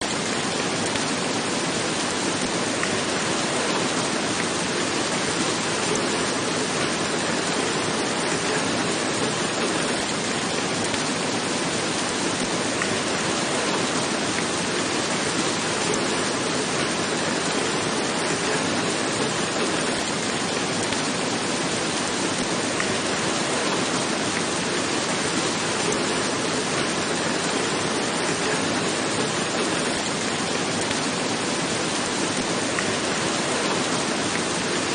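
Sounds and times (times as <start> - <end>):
rain falling on a roof: 0.0 - 34.9.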